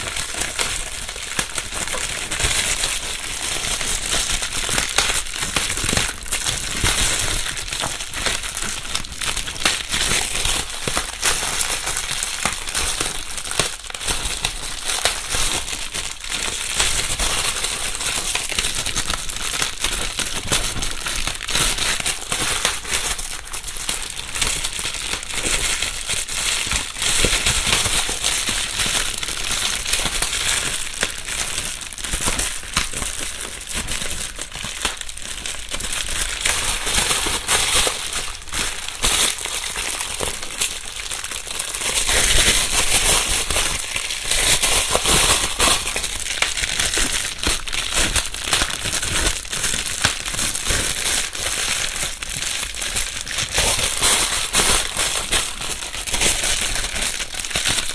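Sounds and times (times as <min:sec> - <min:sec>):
bubble wrap crumpling: 0:00.0 - 0:57.9.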